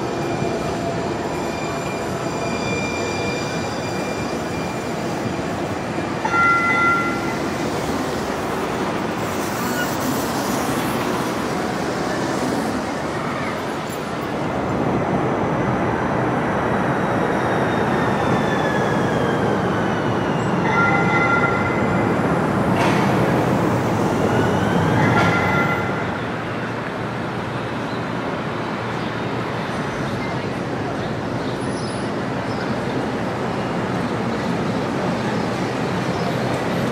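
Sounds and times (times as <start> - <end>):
streetcar wheels and motors rumbling: 0.0 - 36.9.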